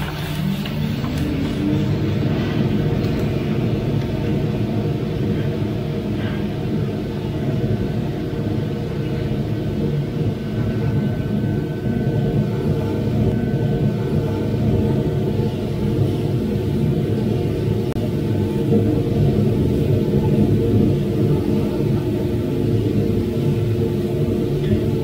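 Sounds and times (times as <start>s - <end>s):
cooling fan drone: 0.0s - 25.0s.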